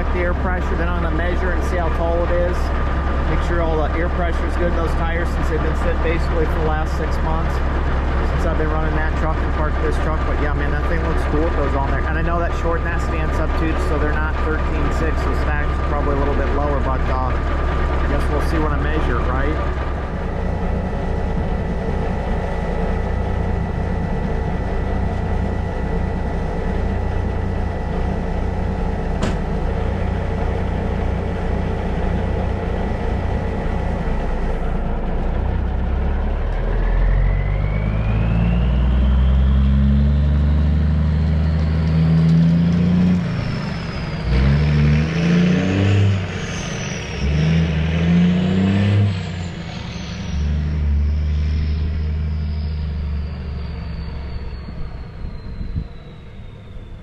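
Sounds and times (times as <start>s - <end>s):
diesel truck engine: 0.0s - 57.0s
high gearbox whine: 0.0s - 57.0s.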